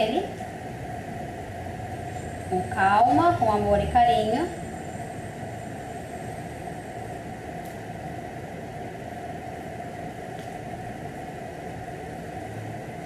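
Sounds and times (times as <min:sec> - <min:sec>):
fan or motor whirring: 0:00.0 - 0:13.0.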